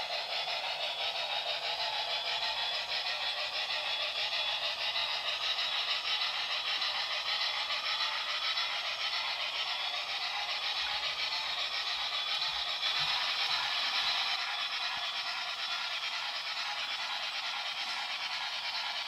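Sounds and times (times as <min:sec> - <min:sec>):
model train wheels rattling: 0:00.0 - 0:19.0.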